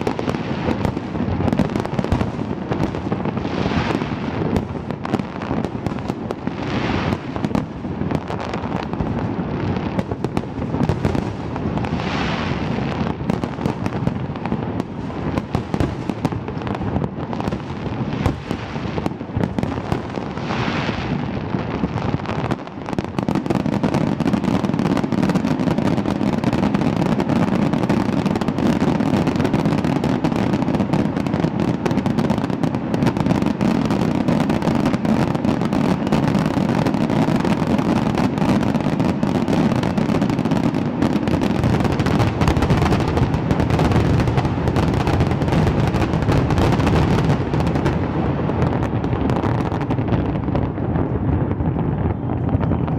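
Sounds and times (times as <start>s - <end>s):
fireworks banging and crackling: 0.0s - 52.9s
hissing firework bursts: 0.0s - 52.9s.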